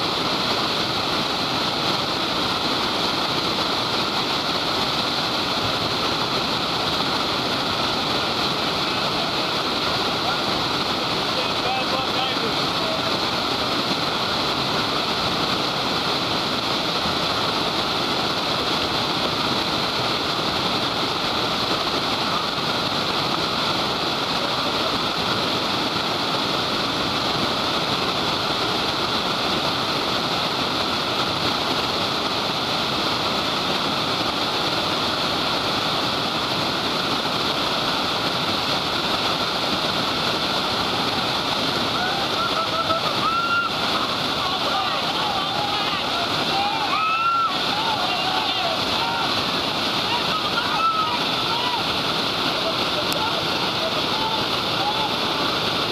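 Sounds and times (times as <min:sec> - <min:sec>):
river rapids rushing over rocks: 0:00.0 - 0:55.9.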